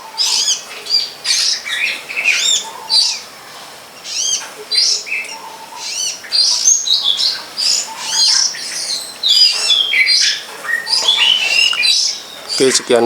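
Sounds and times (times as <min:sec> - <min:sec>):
shrike singing: 0:00.0 - 0:13.0.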